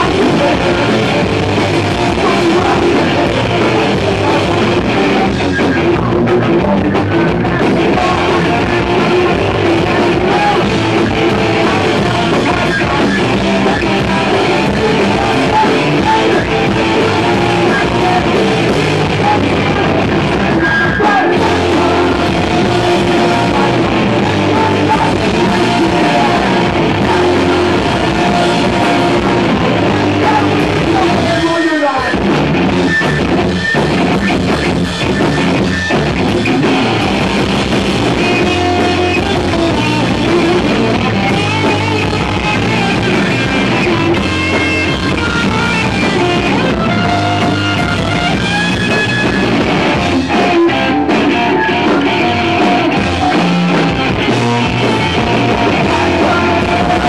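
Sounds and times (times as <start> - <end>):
person singing into microphone: 0.0 - 32.2, 38.1 - 48.4, 50.1 - 57.0
drum kit: 0.0 - 57.0
electric guitars: 0.0 - 57.0.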